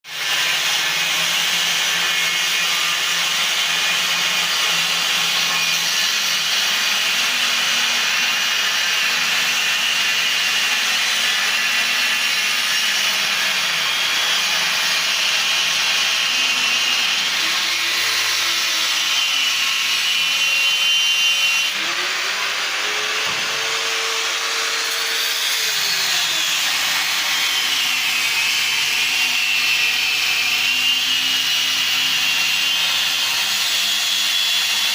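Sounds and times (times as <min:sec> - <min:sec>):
power tool cutting metal: 0:00.1 - 0:34.9.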